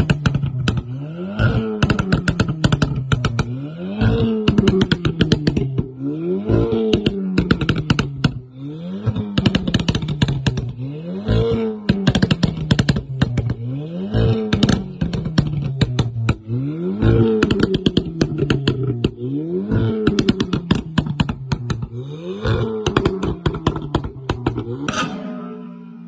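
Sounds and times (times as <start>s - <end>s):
exhaust pops and crackles: 0.0s - 25.1s
car engine revving: 0.0s - 26.0s.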